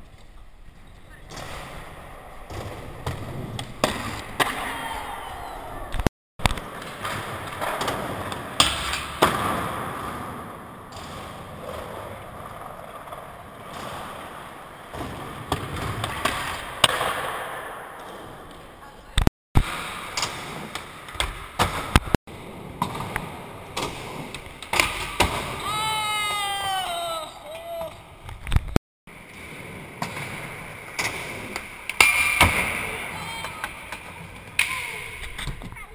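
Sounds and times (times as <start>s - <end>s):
skateboard wheels rolling: 0.0s - 26.8s, 27.5s - 35.9s.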